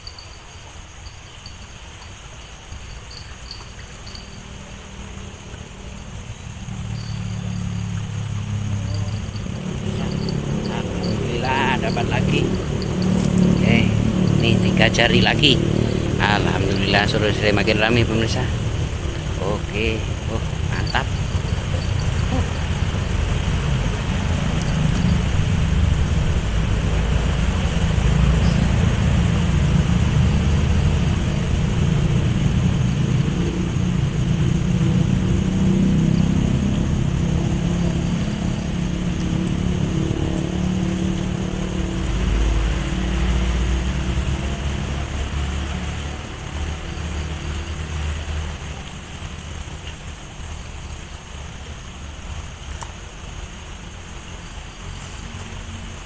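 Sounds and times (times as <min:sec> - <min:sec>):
traffic rumbling on bridge overhead: 0:00.0 - 0:56.0.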